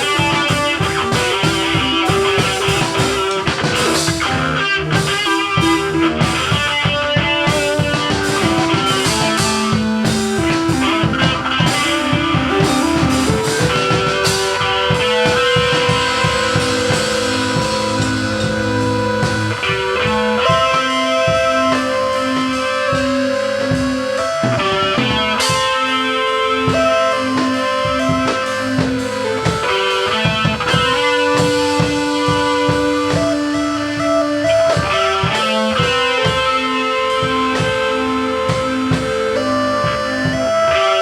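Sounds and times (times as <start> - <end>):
drum kit: 0.0 - 41.0
rock music with guitars: 0.0 - 41.0.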